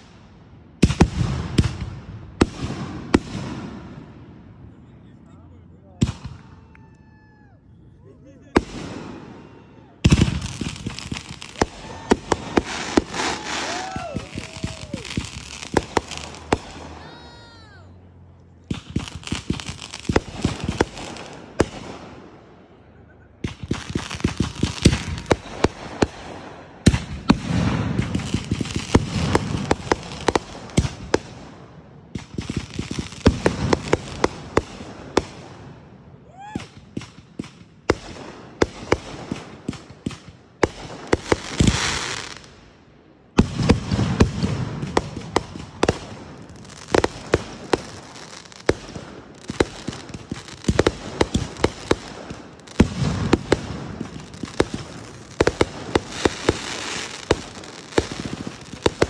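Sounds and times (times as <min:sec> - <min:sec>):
fireworks crackling pops: 0:00.8 - 0:03.8, 0:08.6 - 0:17.7, 0:18.4 - 0:22.2, 0:23.4 - 0:35.6, 0:36.3 - 0:42.6, 0:43.3 - 0:59.0.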